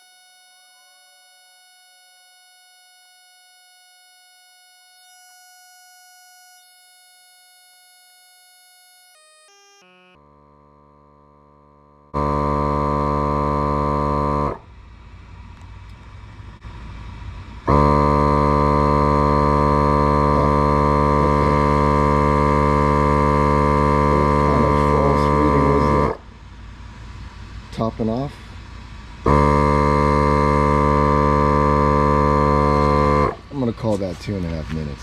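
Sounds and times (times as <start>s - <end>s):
air compressor humming: 0.0s - 35.0s.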